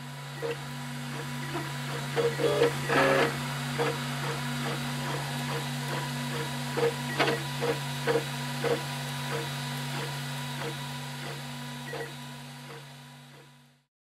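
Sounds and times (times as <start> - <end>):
stepper motors whining: 0.0 - 13.4
steady low hum: 0.0 - 13.7.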